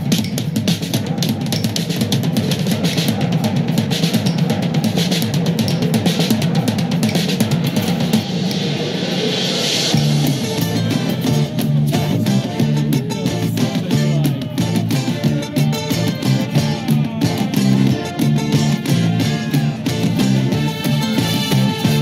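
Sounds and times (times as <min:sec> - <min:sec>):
fast drum kit playing: 0:00.0 - 0:22.0.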